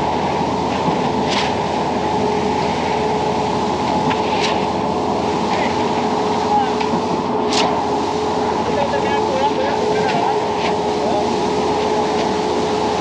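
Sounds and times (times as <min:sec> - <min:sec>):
pump truck engine drone: 0:00.0 - 0:13.0.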